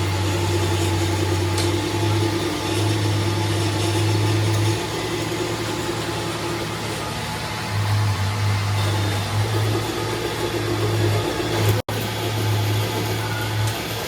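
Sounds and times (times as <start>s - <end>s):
workshop machinery humming: 0.0s - 14.0s.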